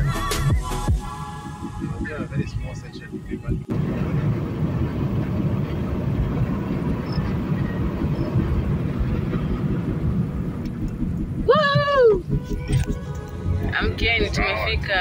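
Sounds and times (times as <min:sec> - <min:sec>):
car road and engine noise: 0:00.2 - 0:15.0.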